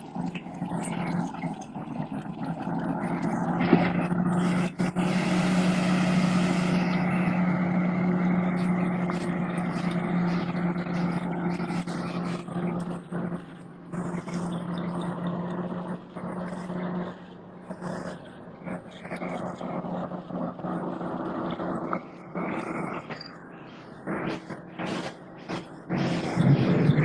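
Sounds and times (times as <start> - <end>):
farm machine engine running: 0.0 - 27.0.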